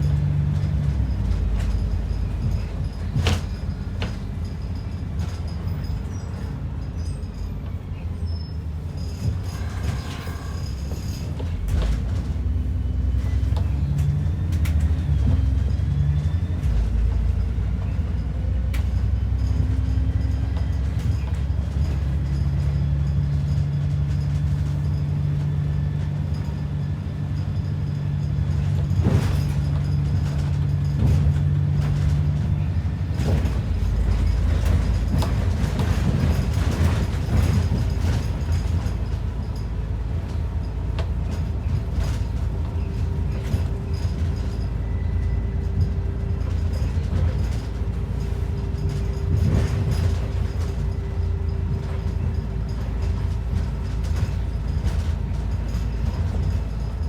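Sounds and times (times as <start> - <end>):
bus engine drone: 0.0 - 57.0.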